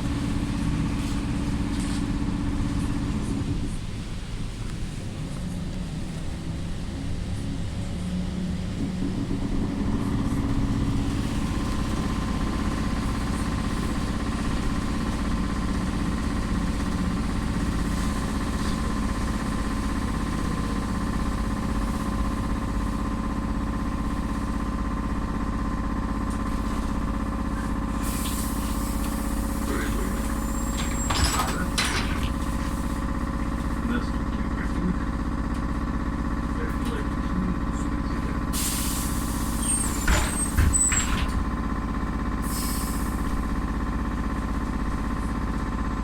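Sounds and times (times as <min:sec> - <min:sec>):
rumble of running gear and road: 0:00.0 - 0:46.0.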